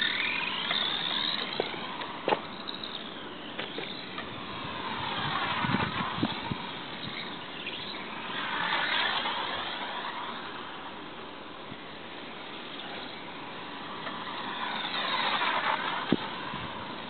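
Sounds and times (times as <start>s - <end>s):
rc truck motor whine: 0.0s - 17.0s.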